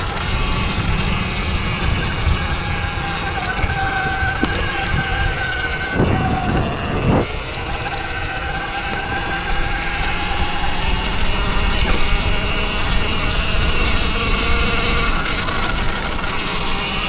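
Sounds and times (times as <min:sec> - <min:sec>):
electric motor whine: 0:00.0 - 0:17.0
wind and tyres on dirt: 0:00.0 - 0:17.0.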